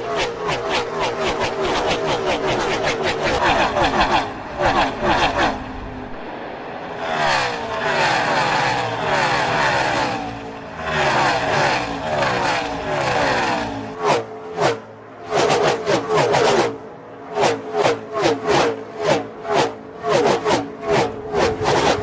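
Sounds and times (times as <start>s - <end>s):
race cars passing by: 0.0s - 22.0s.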